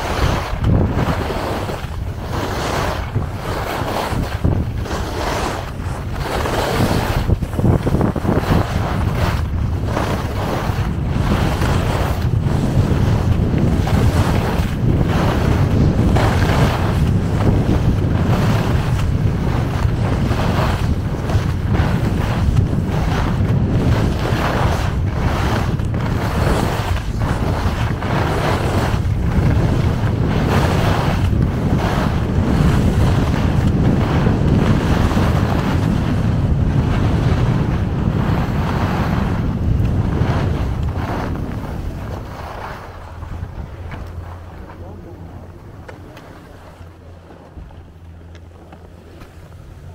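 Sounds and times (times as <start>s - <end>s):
skis scraping over snow: 0.0s - 49.9s
wind buffeting microphone: 0.0s - 49.9s.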